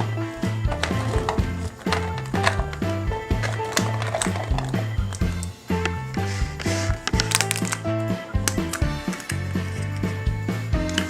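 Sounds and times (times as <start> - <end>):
upbeat music with bass: 0.0 - 11.0.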